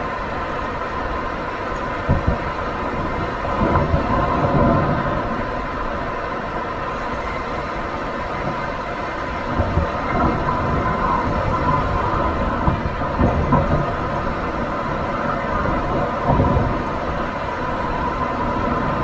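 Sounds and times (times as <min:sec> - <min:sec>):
road and tyre rumble: 0:00.0 - 0:19.0.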